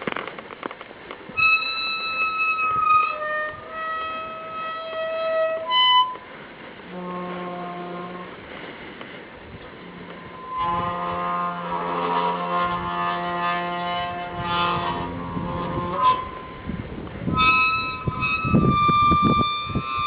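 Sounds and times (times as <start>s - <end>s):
stile squeaking: 1.3s - 8.4s, 9.9s - 20.0s.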